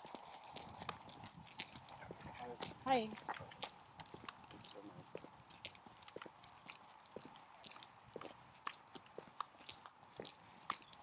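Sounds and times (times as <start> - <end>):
footsteps crunching on gritty path: 0.0 - 11.0.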